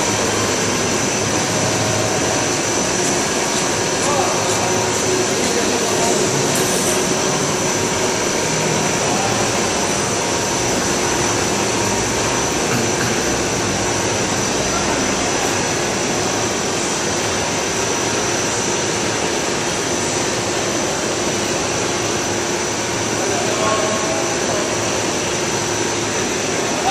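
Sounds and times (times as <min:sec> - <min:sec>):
machine noise with high whine: 0:00.0 - 0:26.9.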